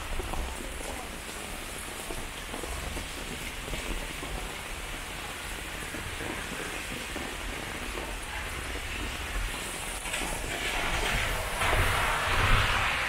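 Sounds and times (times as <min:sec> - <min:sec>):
heavy rain on a wet street: 0:00.0 - 0:13.0.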